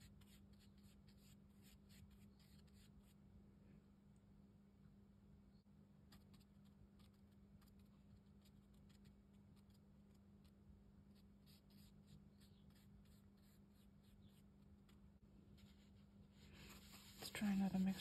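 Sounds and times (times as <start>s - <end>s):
brush strokes on paper: 0.0s - 3.2s, 6.1s - 18.0s.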